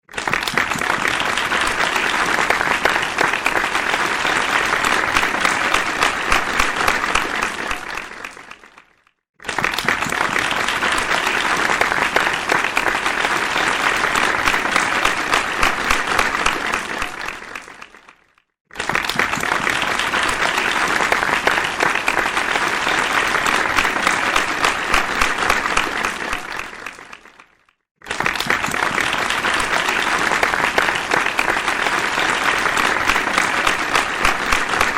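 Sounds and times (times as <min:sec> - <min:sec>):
audience applause: 0:00.0 - 0:34.9.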